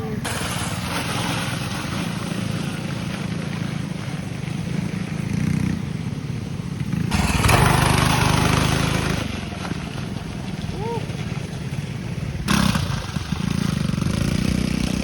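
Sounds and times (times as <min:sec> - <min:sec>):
mini bike engine running: 0:00.0 - 0:15.0.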